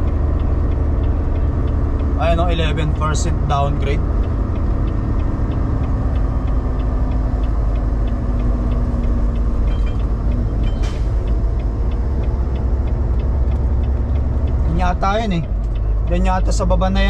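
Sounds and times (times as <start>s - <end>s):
light ticking: 0.0s - 17.0s
truck engine and road noise: 0.0s - 17.0s.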